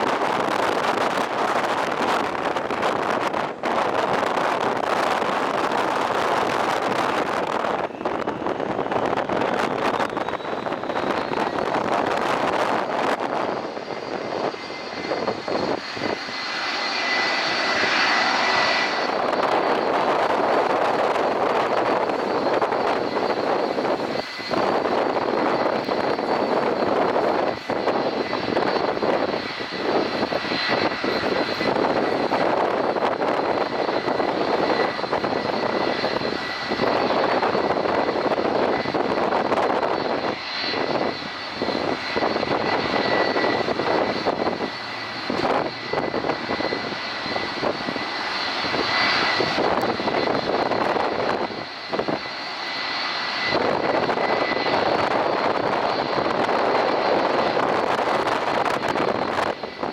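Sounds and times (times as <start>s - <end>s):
jet engines whining and rushing: 0.0s - 59.9s.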